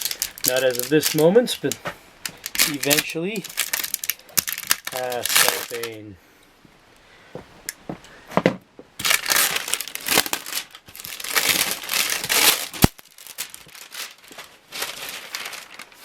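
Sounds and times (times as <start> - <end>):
cellophane crinkling and tearing: 0.0 - 6.0, 9.0 - 16.0.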